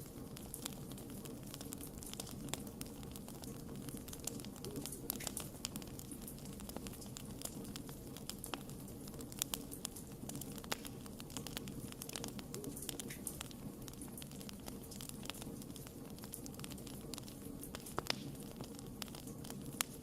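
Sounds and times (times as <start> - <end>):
low steady hum: 0.0 - 20.0
wood fire crackling: 0.0 - 20.0.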